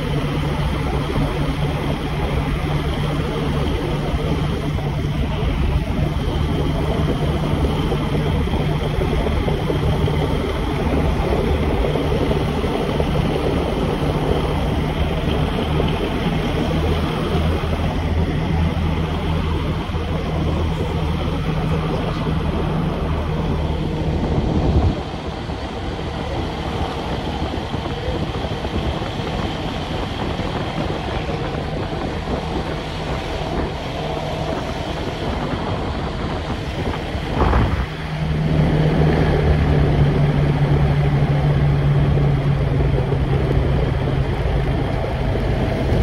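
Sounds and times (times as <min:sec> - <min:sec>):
engine humming: 0:00.0 - 0:46.0.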